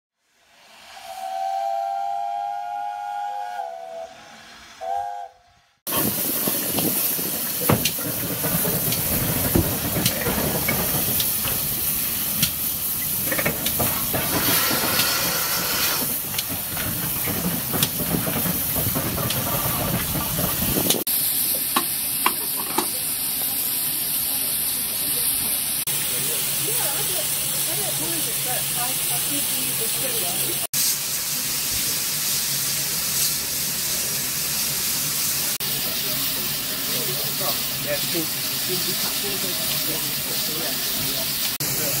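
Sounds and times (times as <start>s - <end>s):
locomotive steam hissing: 0.2s - 42.0s.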